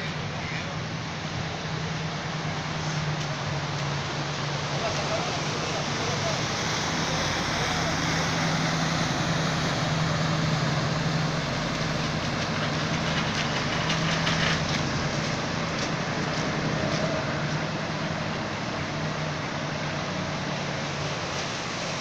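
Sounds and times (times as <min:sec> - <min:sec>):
truck engine hum: 0:00.0 - 0:22.0
water splashing: 0:00.0 - 0:22.0.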